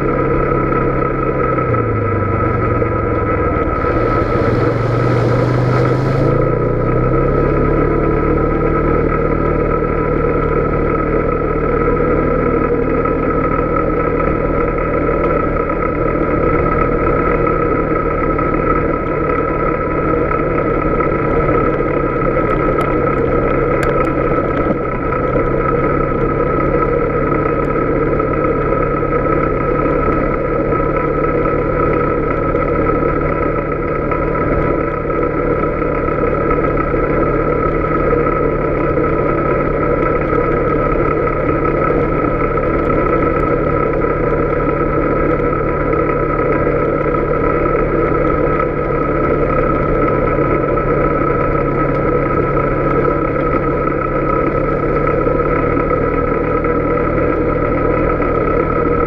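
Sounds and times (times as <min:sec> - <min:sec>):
atv engine running: 0:00.0 - 0:59.0
drivetrain whine: 0:00.0 - 0:59.0
tires rolling on gravel: 0:00.0 - 0:59.0.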